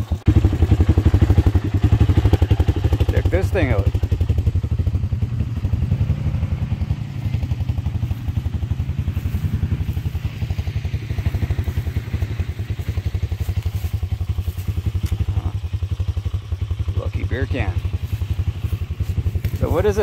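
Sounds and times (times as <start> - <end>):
atv engine idling: 0.0 - 20.0.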